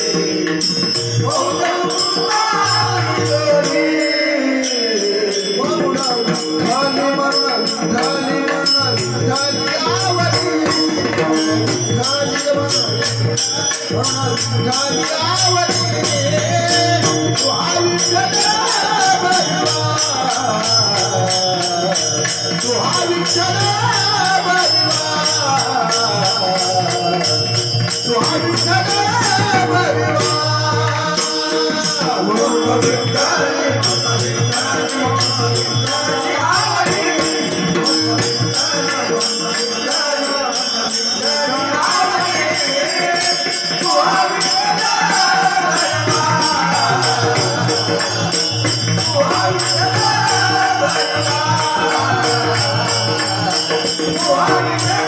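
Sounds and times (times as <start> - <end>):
jingling percussion: 0.0 - 55.0.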